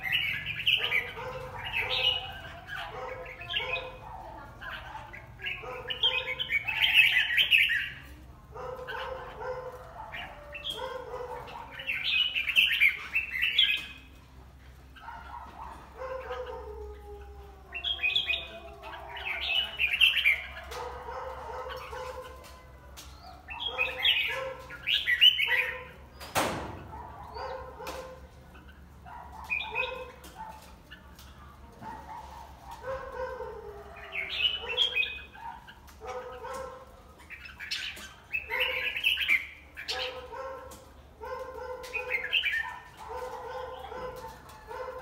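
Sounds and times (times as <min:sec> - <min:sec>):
bird singing warbled phrases: 0:00.0 - 0:45.0.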